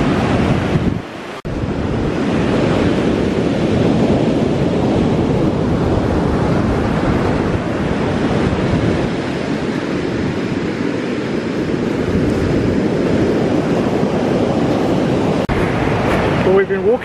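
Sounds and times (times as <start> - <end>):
ocean surf breaking on beach: 0.0 - 17.0
wind rumbling on microphone: 0.0 - 17.0.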